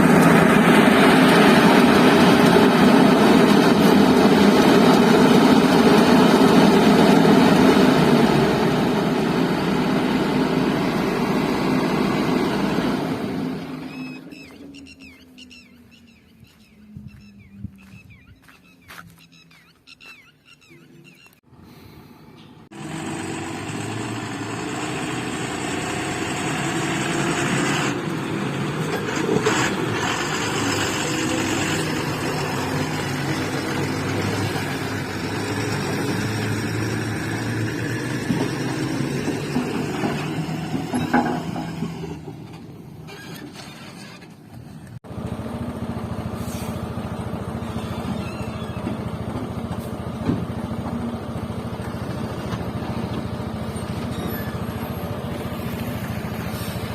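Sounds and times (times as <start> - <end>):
heavy diesel machinery running: 0.0 - 19.2, 21.0 - 56.9.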